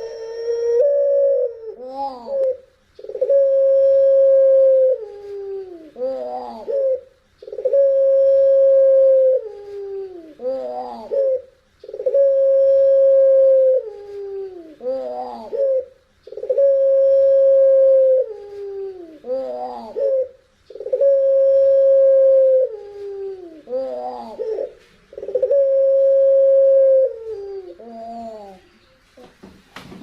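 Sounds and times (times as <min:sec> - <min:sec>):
dove cooing: 0:00.0 - 0:28.7.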